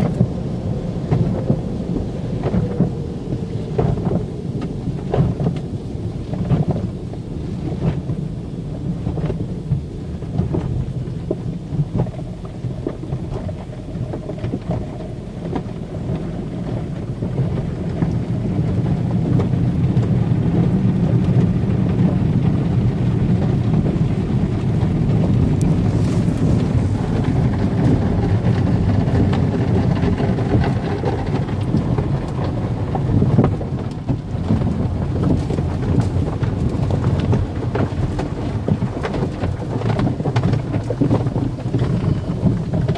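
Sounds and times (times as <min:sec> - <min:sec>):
water spray drumming on a car: 0:00.0 - 0:42.9.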